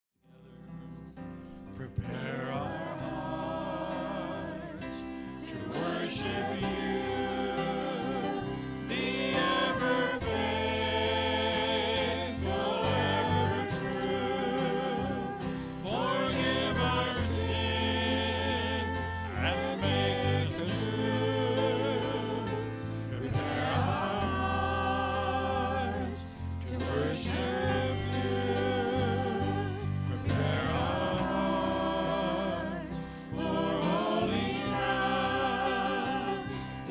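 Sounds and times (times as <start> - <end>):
instrumental backing: 0.6 - 36.9
group singing worship song: 1.8 - 36.9.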